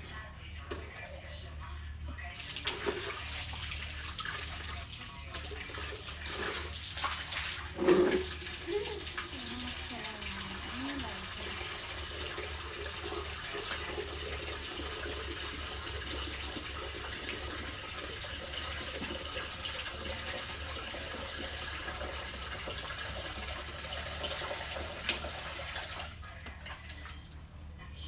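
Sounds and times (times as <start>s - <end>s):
low steady hum: 0.0s - 28.0s
water hissing with drips: 2.3s - 27.4s.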